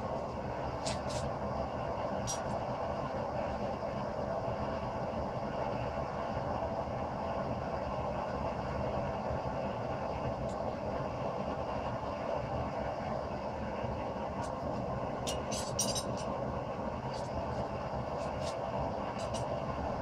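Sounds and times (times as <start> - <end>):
forge burner rushing: 0.0 - 20.0.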